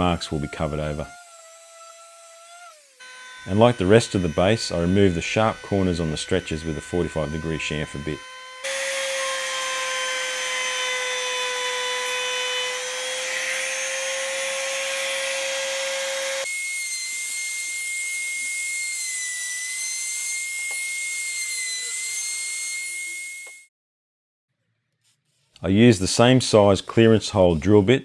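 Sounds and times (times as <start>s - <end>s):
trim router whining: 0.0s - 23.7s.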